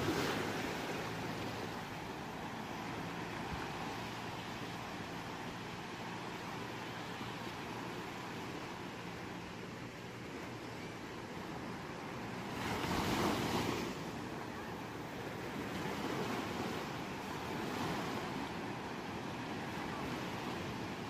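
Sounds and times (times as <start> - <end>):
waves breaking and washing ashore: 0.0 - 21.0.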